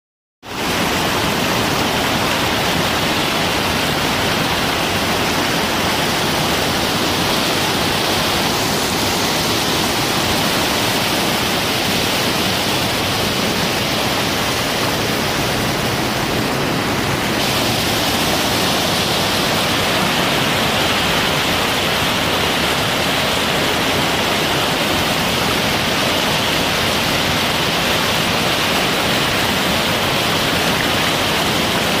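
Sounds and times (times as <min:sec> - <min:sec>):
churning rapids: 0:00.5 - 0:32.0
waterfall rushing: 0:00.5 - 0:32.0.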